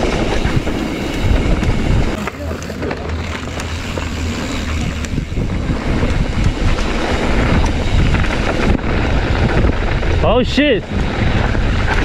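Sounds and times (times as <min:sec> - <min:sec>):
bike rattling: 0:00.0 - 0:12.0
tyres rumbling on dirt: 0:00.0 - 0:12.0
wind on microphone: 0:00.0 - 0:12.0.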